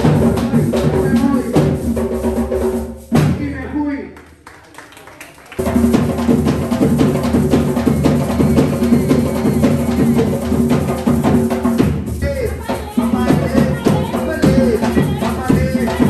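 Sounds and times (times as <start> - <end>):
drum-led music: 0.0 - 3.5, 5.6 - 16.0.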